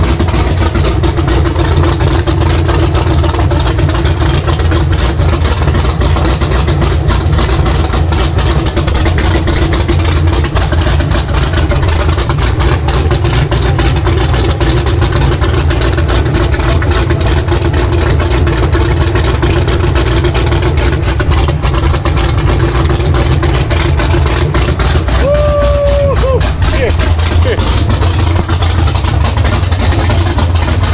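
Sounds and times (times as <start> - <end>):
loud choppy car engine idling: 0.0 - 30.9.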